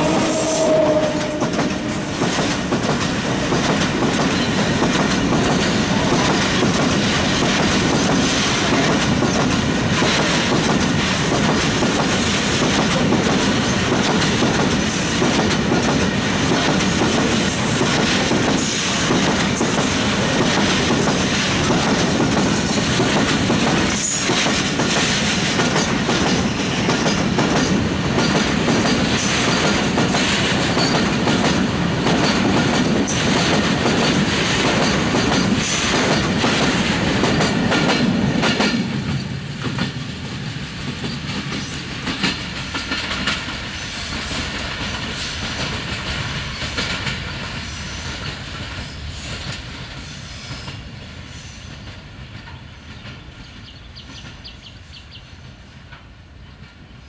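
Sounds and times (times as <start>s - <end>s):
train wheels clattering over rail joints: 0.0s - 50.9s.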